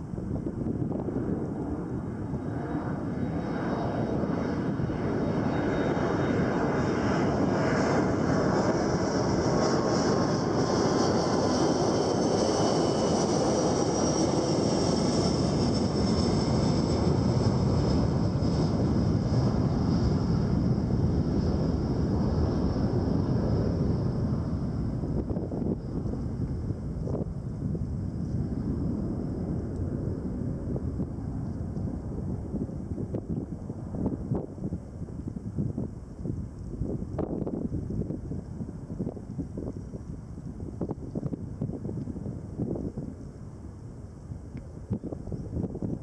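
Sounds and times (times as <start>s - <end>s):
airplane engine noise: 0.0s - 46.0s.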